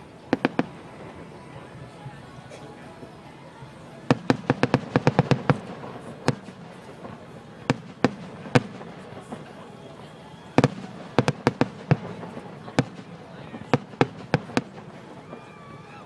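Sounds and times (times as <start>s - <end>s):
fireworks bangs: 0.0s - 2.3s, 4.0s - 16.0s.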